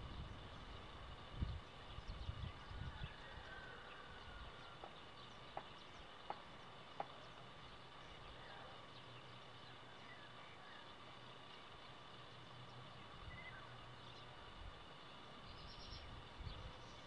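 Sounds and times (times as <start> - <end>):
thin steady high hum: 0.0 - 17.0.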